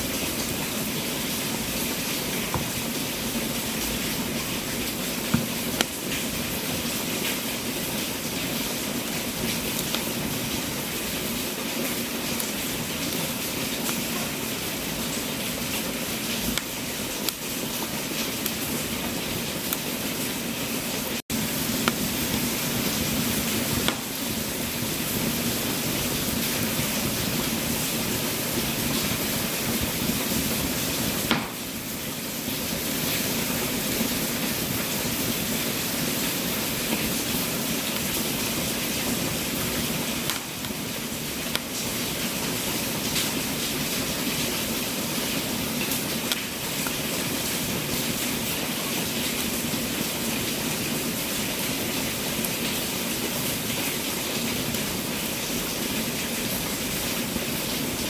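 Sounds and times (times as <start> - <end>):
fire crackles and pops: 0.0 - 57.9
wood fire hissing: 0.0 - 58.0.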